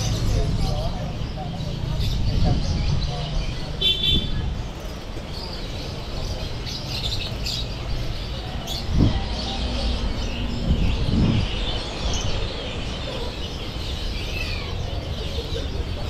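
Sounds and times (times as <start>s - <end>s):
market background hum: 0.0s - 16.0s
songbirds chirping and twittering: 0.0s - 16.0s.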